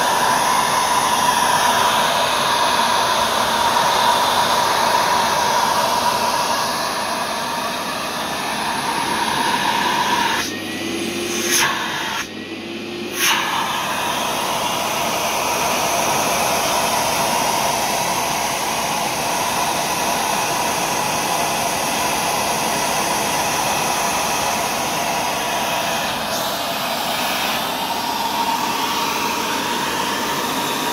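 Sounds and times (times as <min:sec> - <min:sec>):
carpet cleaner suction motor: 0:00.0 - 0:30.9.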